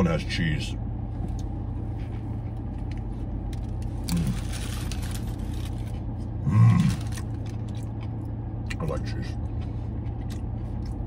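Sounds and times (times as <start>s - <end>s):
low car cabin hum: 0.0s - 11.0s
man chewing a burger: 1.1s - 11.0s.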